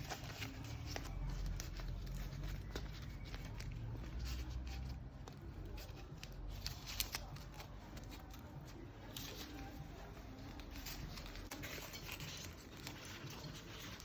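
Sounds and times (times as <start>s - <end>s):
leaves rustling and crinkling: 0.0s - 14.0s.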